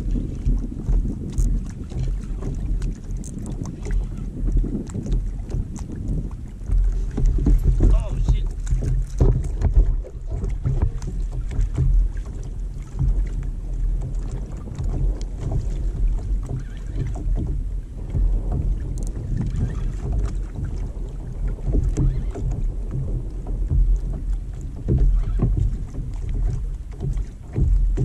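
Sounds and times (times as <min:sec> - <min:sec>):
small knocks on kayak hull: 0:00.0 - 0:28.0
water splashing against hull: 0:00.0 - 0:28.0
wind rumbling on microphone: 0:00.0 - 0:28.0.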